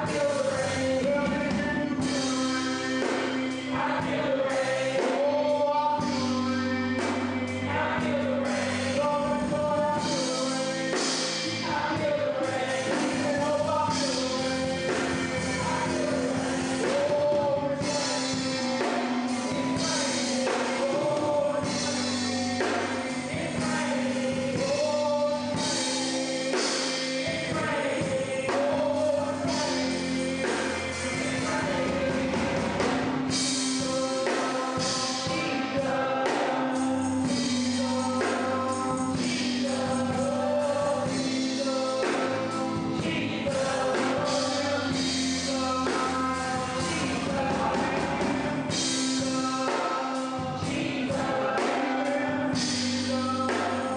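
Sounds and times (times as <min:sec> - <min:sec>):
band playing steady beat: 0:00.0 - 0:53.9
held organ tone: 0:00.0 - 0:53.9
choir singing: 0:02.0 - 0:53.9.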